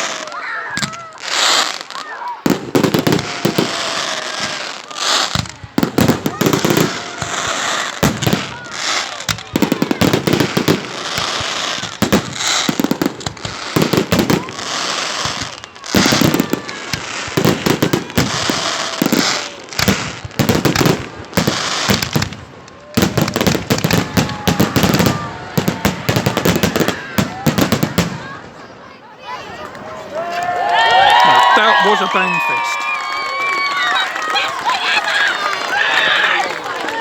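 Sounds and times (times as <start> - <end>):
fireworks banging and crackling: 0.0 - 28.7, 29.5 - 37.0.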